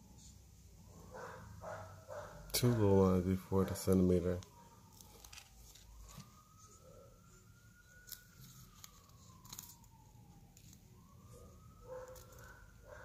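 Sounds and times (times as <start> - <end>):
distant siren wailing: 0.0 - 13.0.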